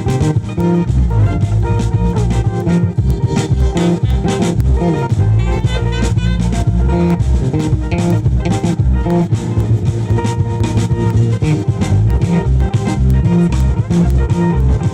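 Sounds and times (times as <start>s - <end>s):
bass guitar: 0.0s - 14.9s
drum kit beat: 0.0s - 14.9s
guitar: 0.0s - 14.9s.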